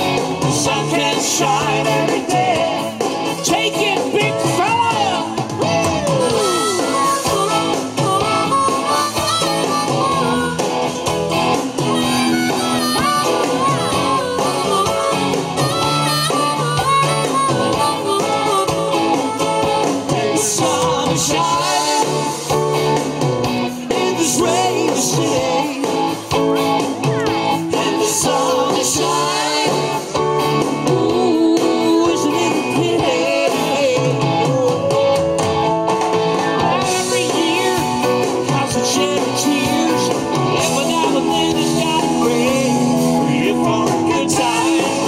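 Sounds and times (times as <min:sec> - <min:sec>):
person singing: 0:00.0 - 0:11.0, 0:11.9 - 0:23.0, 0:23.8 - 0:35.4, 0:36.6 - 0:45.0
electric guitar: 0:00.0 - 0:45.0
rock band playing live: 0:00.0 - 0:45.0.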